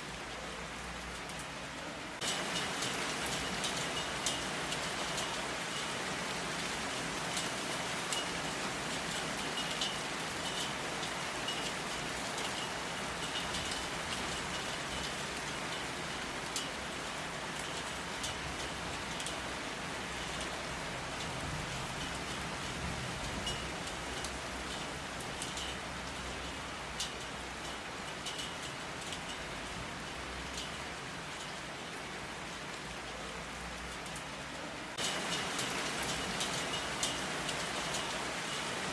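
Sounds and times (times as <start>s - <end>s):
hiss of rainfall: 0.0s - 38.9s
raindrops pattering on hard surface: 0.0s - 38.9s.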